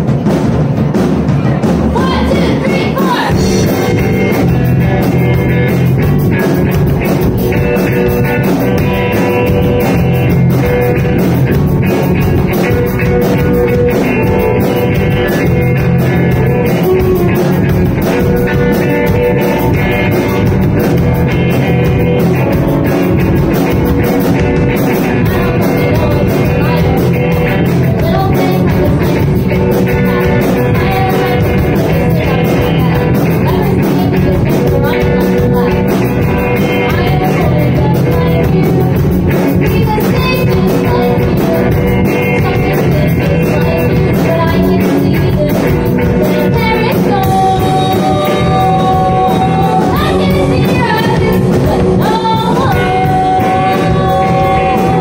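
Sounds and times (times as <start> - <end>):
drum kit: 0.0 - 55.0
electric guitar: 0.0 - 55.0
person singing: 1.9 - 6.0, 7.4 - 55.0.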